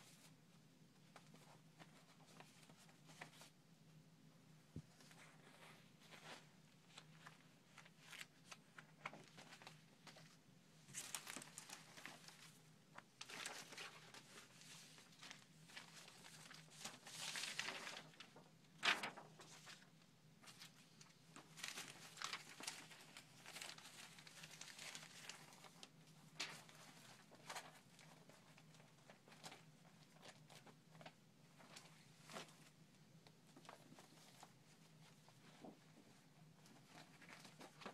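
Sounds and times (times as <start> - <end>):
faint low hum: 0.0 - 37.9
paper pages rustling: 1.0 - 3.6, 4.8 - 32.8, 33.4 - 37.9.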